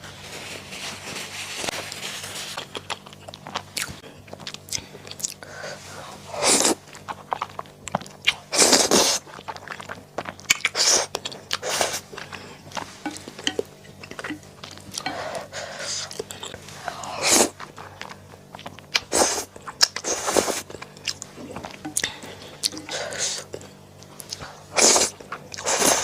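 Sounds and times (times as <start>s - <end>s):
person chewing and biting: 1.9s - 5.5s, 6.2s - 26.0s.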